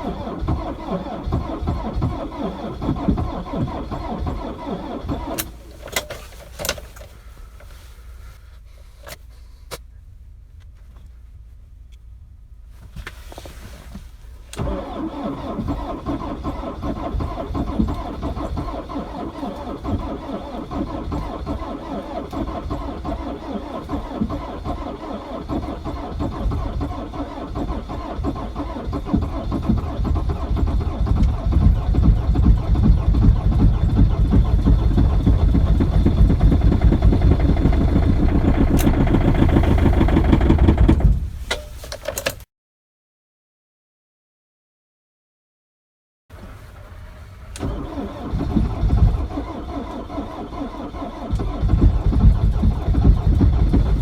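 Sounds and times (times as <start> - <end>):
diesel engine clattering: 0.0 - 7.8, 14.6 - 42.4, 46.3 - 54.0.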